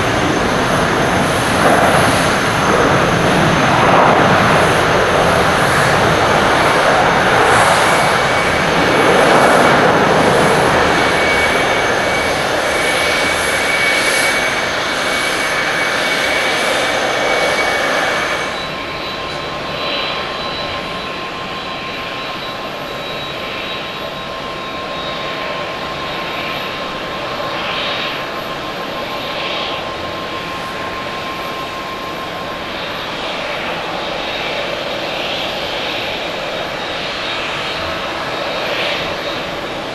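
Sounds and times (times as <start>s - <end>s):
jet engines roaring and whining: 0.0s - 39.9s.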